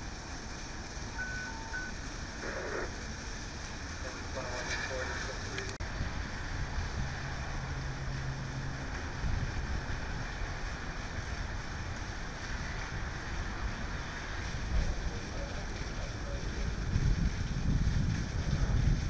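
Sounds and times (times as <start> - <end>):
steady rain: 0.0 - 19.0
wind rumbling on microphone: 0.0 - 19.0.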